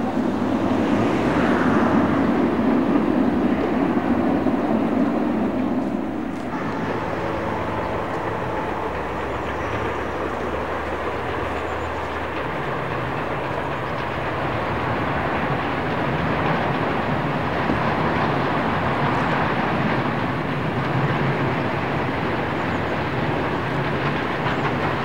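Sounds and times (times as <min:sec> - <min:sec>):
distant steam train running: 0:00.0 - 0:25.0.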